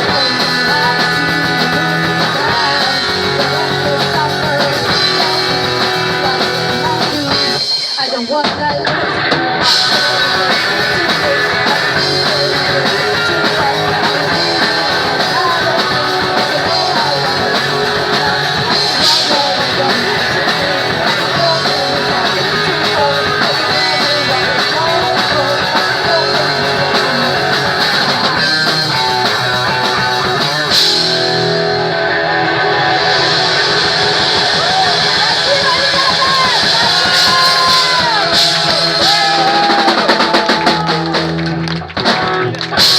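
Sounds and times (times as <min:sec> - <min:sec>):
punk rock band playing live: 0:00.0 - 0:42.9.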